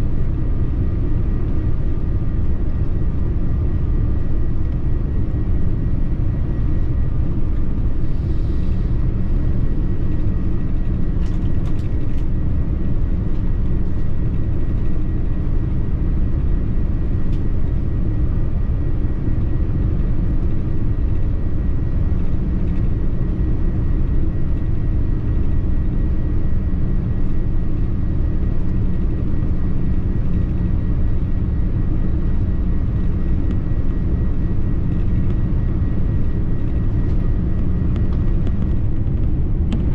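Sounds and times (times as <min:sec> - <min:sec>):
airliner cabin engine rumble: 0:00.0 - 0:39.9
faint steady whine: 0:00.0 - 0:39.9.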